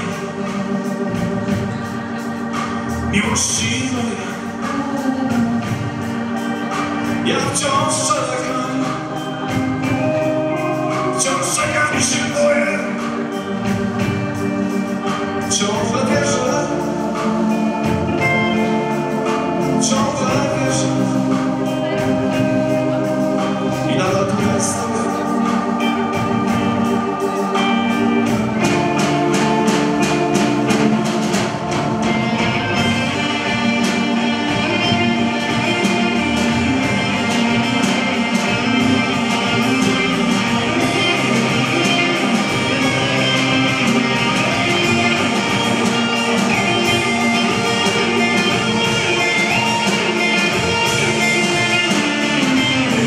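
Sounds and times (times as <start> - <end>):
drum kit steady beat: 0.0 - 53.0
electric guitars: 0.0 - 53.0.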